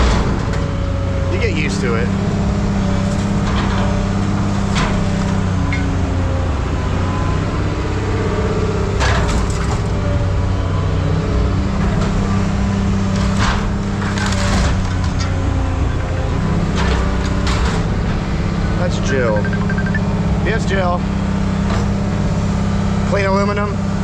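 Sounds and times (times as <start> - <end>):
heavy machinery droning: 0.0 - 24.0.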